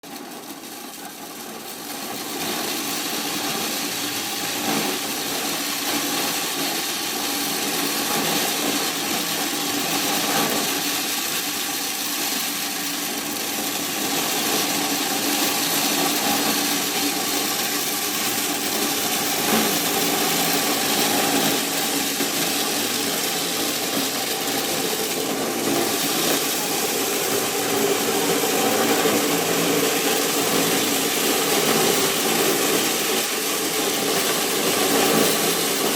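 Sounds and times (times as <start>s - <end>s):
corn thresher running: 0.0s - 35.9s.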